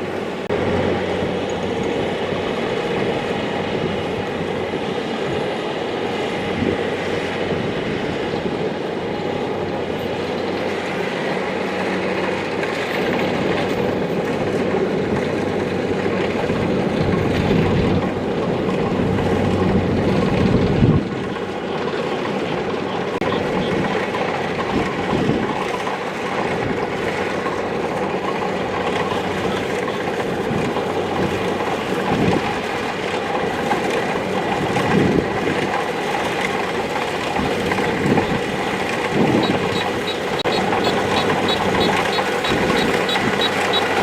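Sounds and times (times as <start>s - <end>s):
combine harvester engine clatter: 0.0s - 44.0s.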